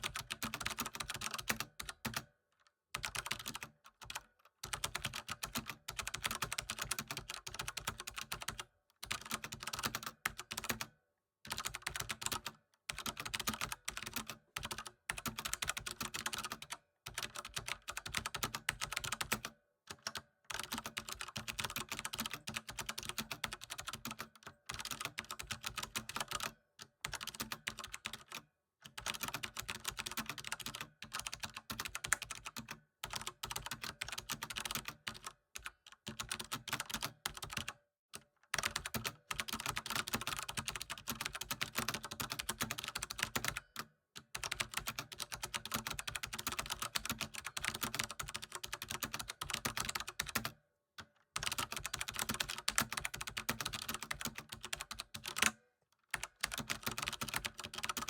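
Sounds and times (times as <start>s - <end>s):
computer keyboard typing: 0.0s - 2.3s, 3.0s - 10.9s, 11.5s - 37.8s, 38.5s - 50.6s, 51.4s - 58.0s.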